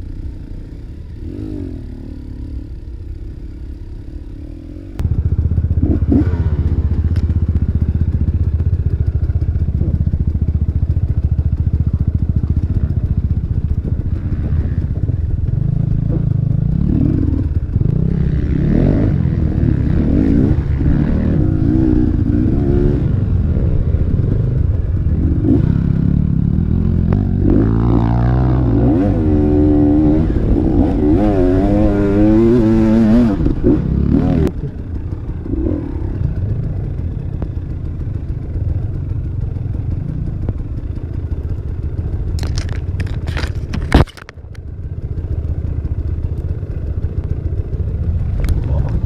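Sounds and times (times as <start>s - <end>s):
motorcycle engine revving: 0.0s - 49.0s
clatter: 4.9s - 49.0s.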